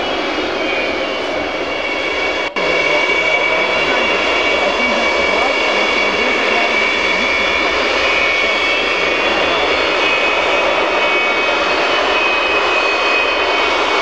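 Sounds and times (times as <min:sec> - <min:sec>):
jet engines roaring with high whine: 0:00.0 - 0:14.0.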